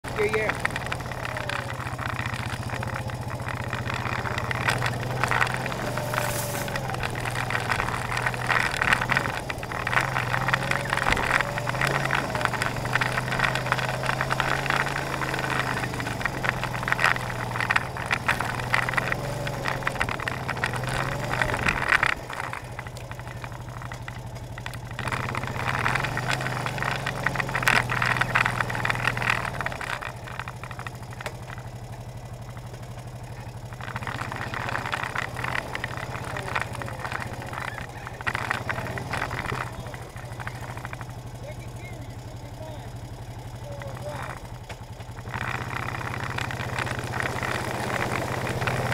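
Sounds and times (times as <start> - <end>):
atv engine running: 0.0 - 48.9
clatter of rattles and bumps: 0.0 - 48.9.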